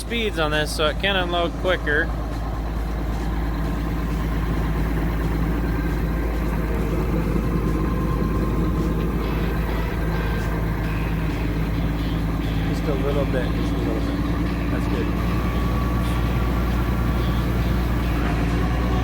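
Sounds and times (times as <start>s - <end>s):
tractor engine under load: 0.0s - 19.0s.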